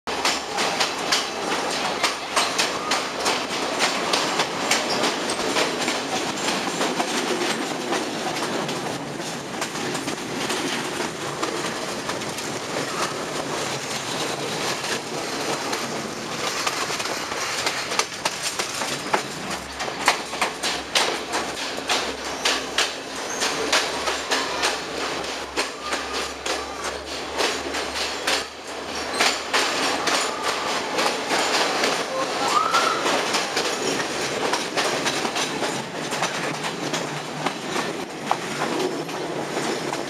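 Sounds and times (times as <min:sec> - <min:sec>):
train rumble: 0:00.1 - 0:40.0
train wheels clattering over rail joints: 0:00.1 - 0:40.0.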